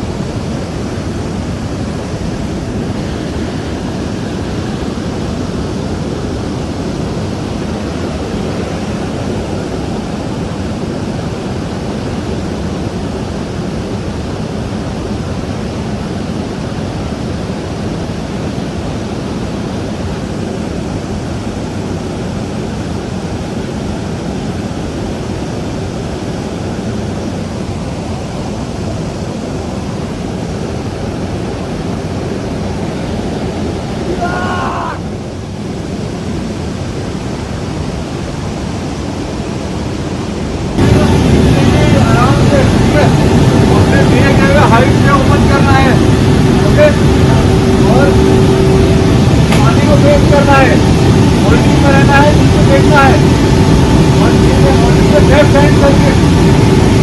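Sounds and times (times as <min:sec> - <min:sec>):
aircraft engine noise: 0:00.0 - 0:57.0
rush of wind: 0:00.0 - 0:57.0.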